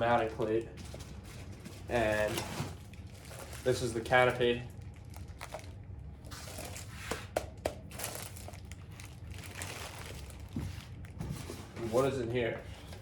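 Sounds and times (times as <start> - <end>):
packaging crinkling: 0.0 - 11.2.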